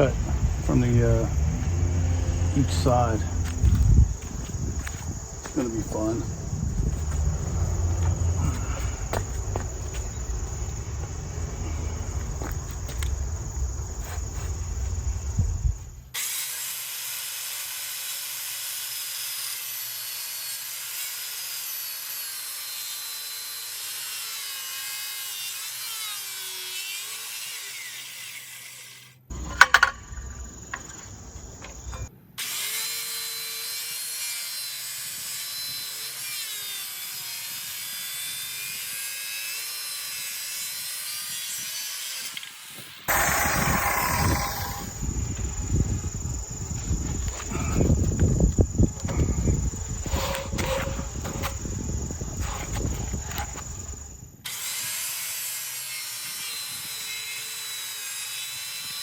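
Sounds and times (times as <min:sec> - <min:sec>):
circular saw cutting wood: 0:00.0 - 0:15.2, 0:16.2 - 0:59.0.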